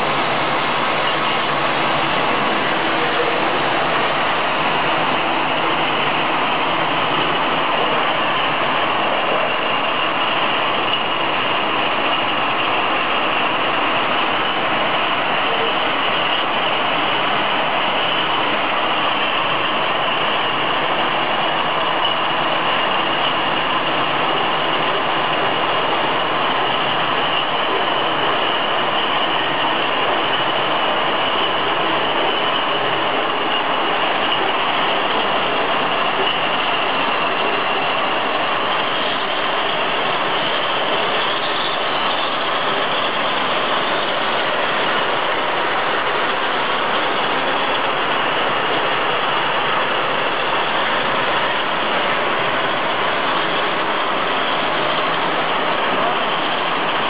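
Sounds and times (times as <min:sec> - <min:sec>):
bottling machinery din: 0:00.0 - 0:57.0
faint high whine: 0:00.0 - 0:57.0.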